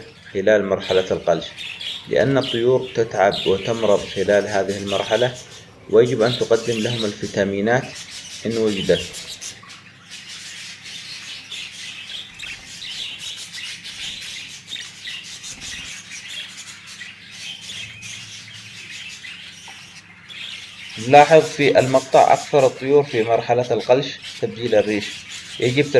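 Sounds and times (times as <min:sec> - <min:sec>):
budgerigars chirping and chattering: 0:00.0 - 0:25.9.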